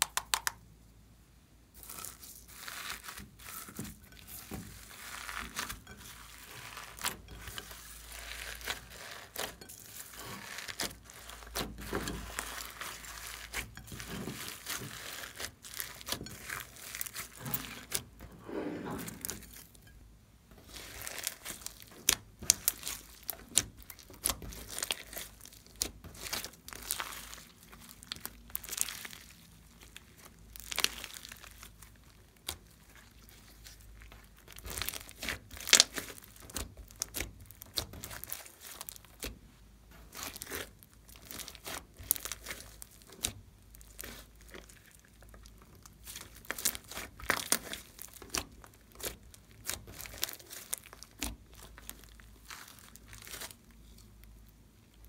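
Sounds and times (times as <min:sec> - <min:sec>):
slime crackling and popping: 0:01.8 - 0:18.2, 0:20.6 - 0:55.0.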